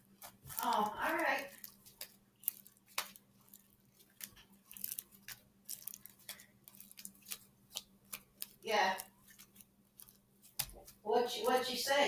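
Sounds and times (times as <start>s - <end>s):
hands squishing slime: 0.0s - 11.7s.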